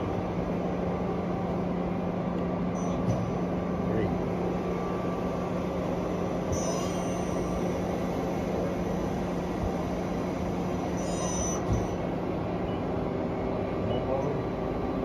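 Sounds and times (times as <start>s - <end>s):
lathe machine hum: 0.0s - 13.8s
high whine: 0.0s - 14.1s.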